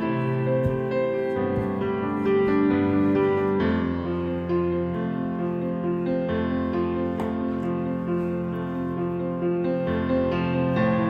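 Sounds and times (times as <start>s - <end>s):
piano background music: 0.0s - 11.0s.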